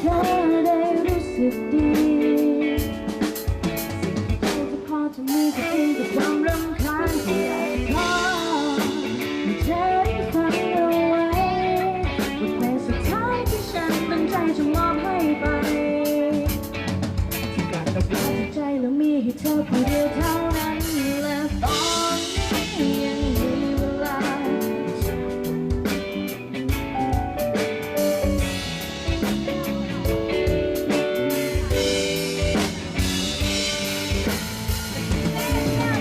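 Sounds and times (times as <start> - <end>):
drum kit beating: 0.0 - 36.0
guitar: 0.0 - 36.0.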